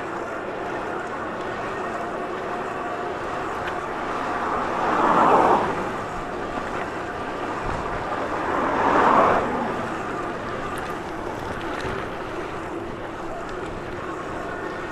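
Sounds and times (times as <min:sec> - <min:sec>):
road noise: 0:00.0 - 0:14.9
vehicles passing: 0:01.8 - 0:14.9.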